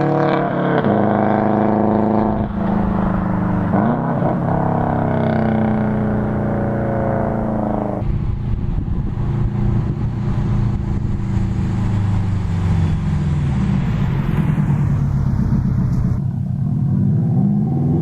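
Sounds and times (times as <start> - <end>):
car engine driving: 0.0 - 18.0.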